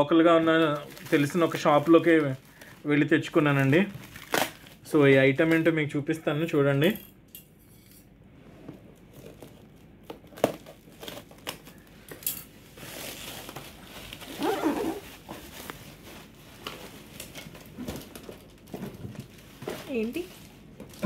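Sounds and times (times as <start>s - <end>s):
plastic wrap crinkling and tearing: 0.0s - 5.8s, 9.0s - 21.0s.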